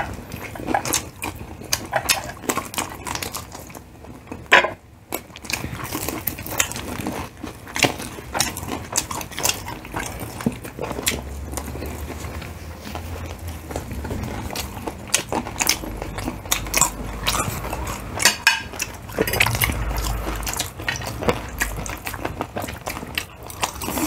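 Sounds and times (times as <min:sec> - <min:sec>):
crunching and chewing fried chicken: 0:00.0 - 0:24.0.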